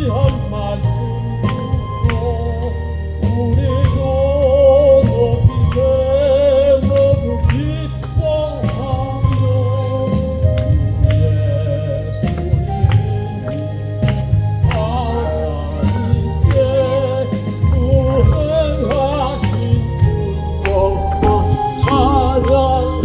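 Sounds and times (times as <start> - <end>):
instrumental accompaniment: 0.0 - 23.0
person singing with vibrato: 0.0 - 23.0.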